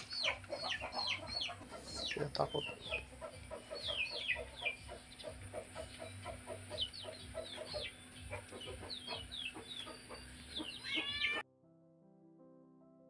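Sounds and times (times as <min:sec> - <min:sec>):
chickens clucking: 0:00.0 - 0:11.4.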